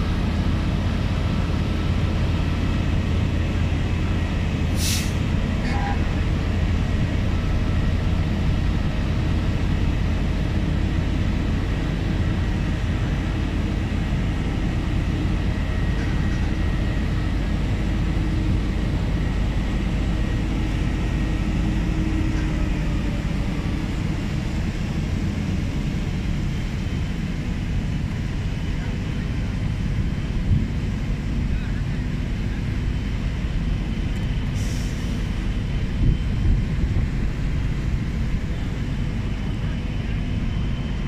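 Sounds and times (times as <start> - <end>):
fire engine drone: 0.0 - 41.0.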